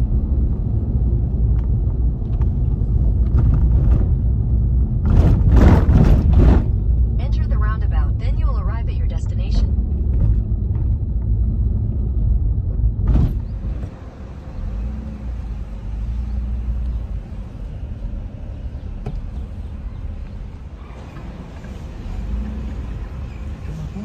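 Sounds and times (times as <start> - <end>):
car rumble from inside cabin: 0.0 - 24.0.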